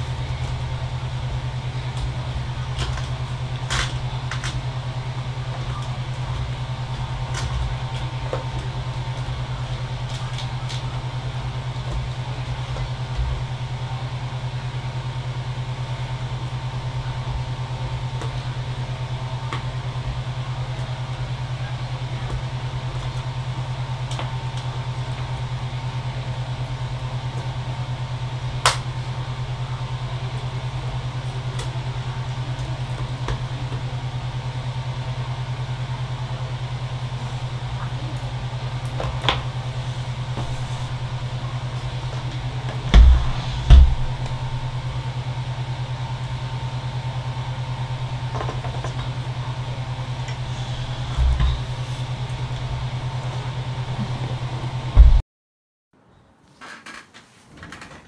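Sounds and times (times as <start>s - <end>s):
steady low hum: 0.0s - 55.2s.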